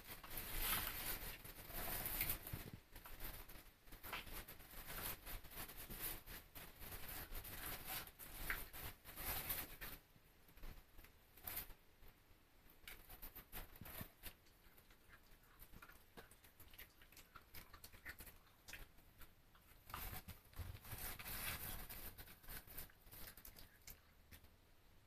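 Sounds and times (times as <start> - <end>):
puppies rustling and scuffling: 0.0 - 24.6.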